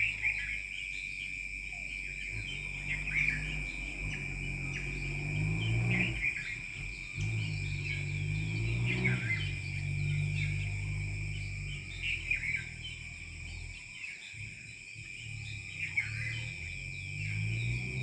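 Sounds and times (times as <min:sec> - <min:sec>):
bird calls and chirps: 0:00.0 - 0:18.0
high insect drone: 0:00.0 - 0:18.0
low steady hum: 0:00.0 - 0:18.0.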